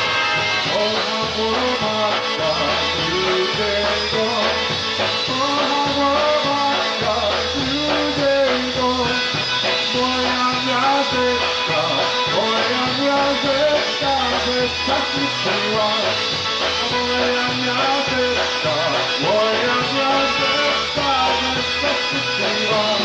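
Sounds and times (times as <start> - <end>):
polka band playing: 0.0 - 23.0.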